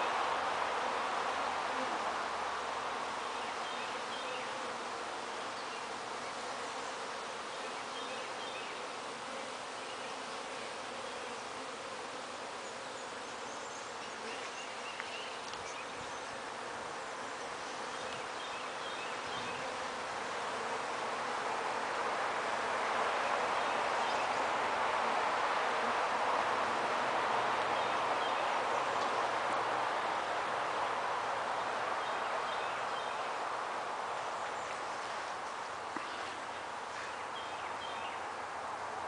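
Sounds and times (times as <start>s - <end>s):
bees buzzing: 0.0s - 39.0s.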